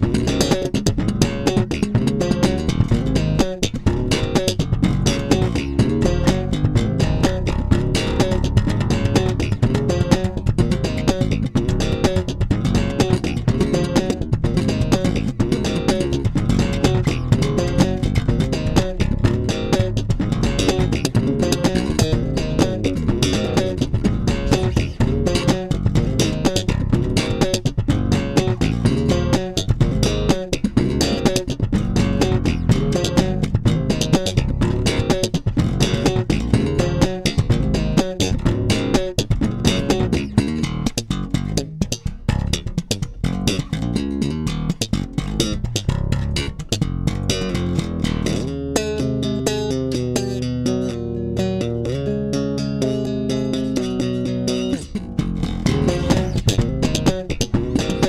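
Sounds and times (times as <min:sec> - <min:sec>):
electric bass guitar fingerstyle: 0:00.0 - 0:58.0.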